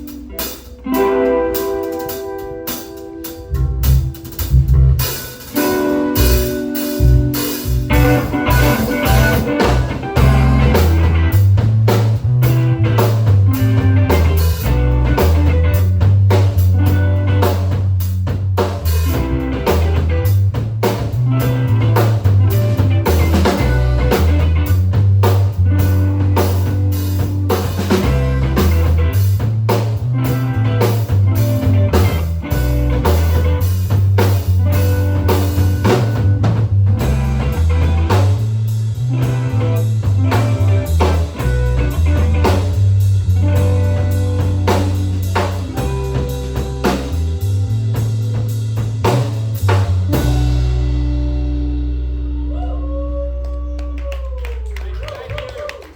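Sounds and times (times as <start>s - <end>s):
drum kit beat: 0.0s - 52.8s
bass line: 0.0s - 55.7s
electric guitar: 0.0s - 55.9s.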